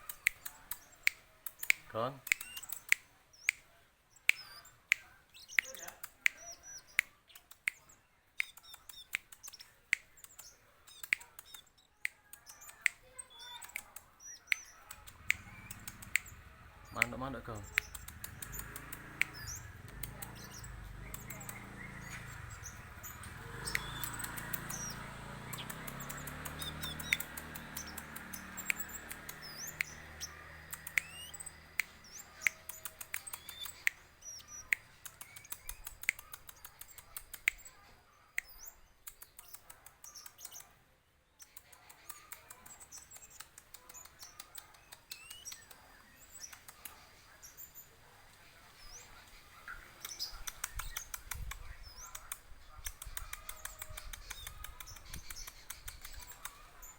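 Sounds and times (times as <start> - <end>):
songbird chirps and clicks: 0.0 - 56.9.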